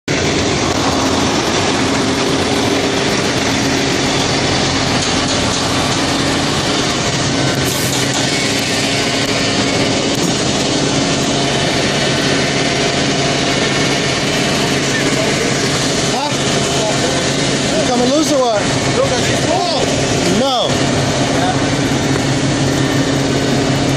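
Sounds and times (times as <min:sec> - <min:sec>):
engines and machinery running: 0:00.0 - 0:23.9.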